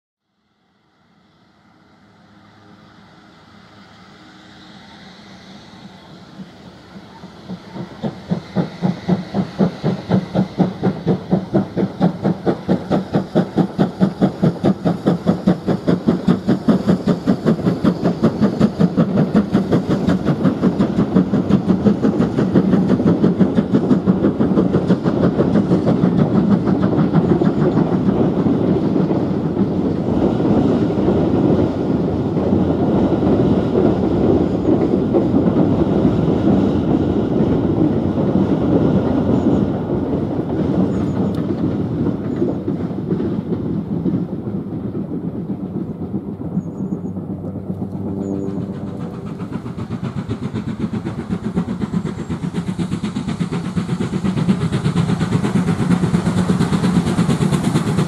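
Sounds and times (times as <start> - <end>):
steam locomotive exhaust beats: 0.3 - 58.0
train wheels clickety-clack: 4.4 - 58.0.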